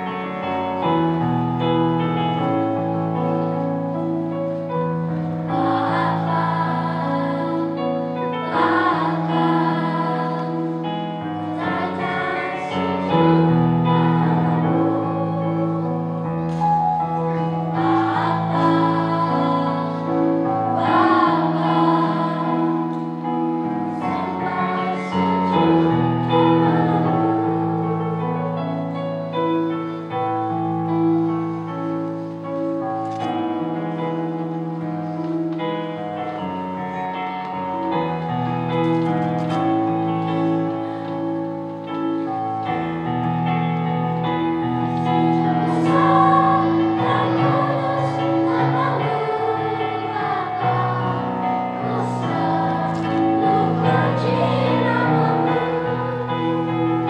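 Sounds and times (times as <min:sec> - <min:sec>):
children's choir singing: 0:00.0 - 0:57.0
keyboard accompaniment: 0:00.0 - 0:57.0.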